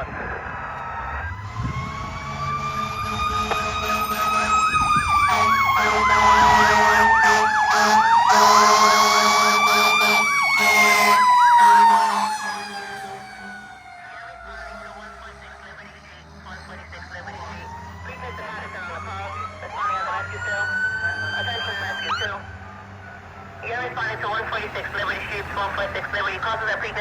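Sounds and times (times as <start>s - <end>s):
mechanical siren wailing: 0.0s - 16.4s, 17.0s - 22.8s
siren yelping rapidly: 0.0s - 22.5s.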